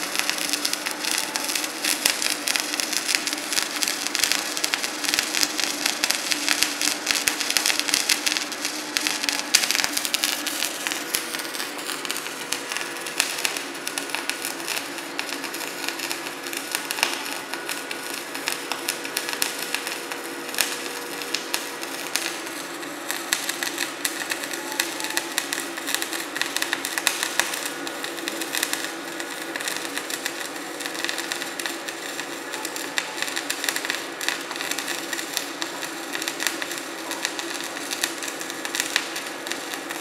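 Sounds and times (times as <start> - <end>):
welding arc crackling: 0.0 - 40.0.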